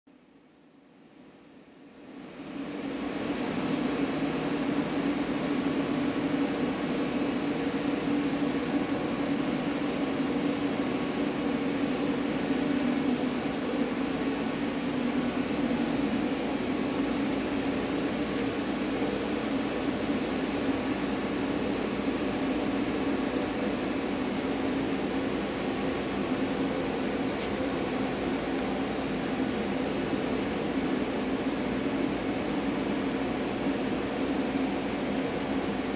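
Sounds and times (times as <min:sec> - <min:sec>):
lathe humming with low drone: 0:00.2 - 0:35.9.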